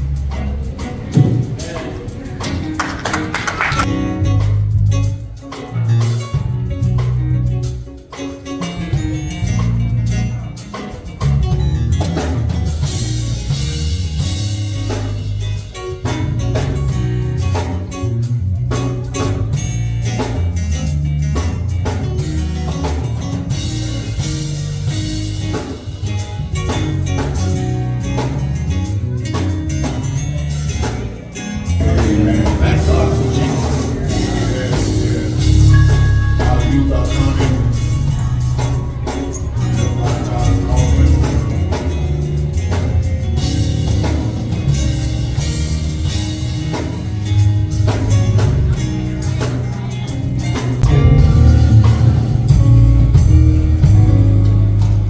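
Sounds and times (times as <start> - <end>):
instrumental band music: 0.0 - 55.0.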